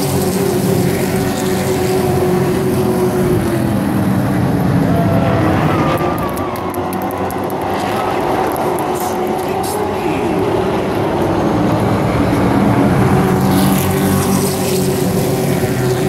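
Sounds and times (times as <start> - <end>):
race truck engines passing: 0.0 - 16.0.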